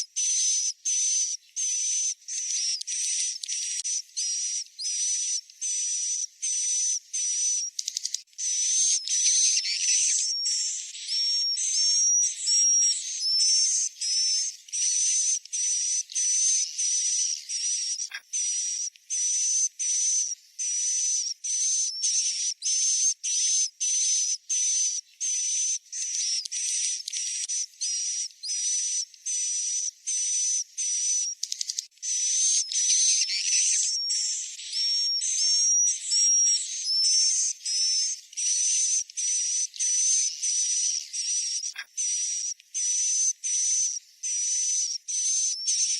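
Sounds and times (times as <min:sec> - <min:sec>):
high hissy twittering bird chirps: 0:00.0 - 0:45.9.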